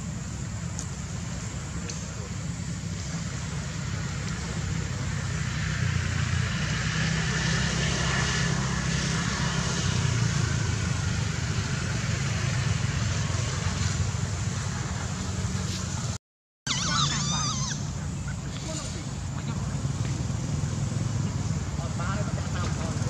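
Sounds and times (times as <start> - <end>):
outdoor background rumble: 0.0 - 23.0.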